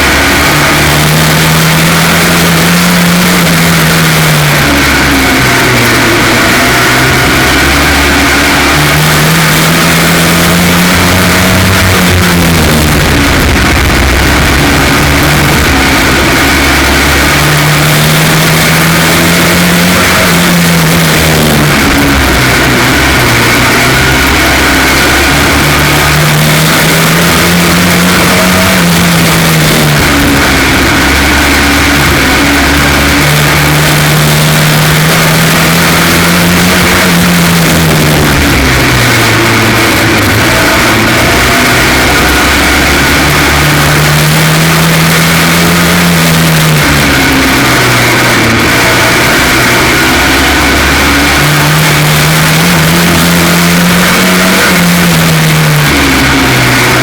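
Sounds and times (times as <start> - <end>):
race car engine misfiring: 0.0 - 57.0.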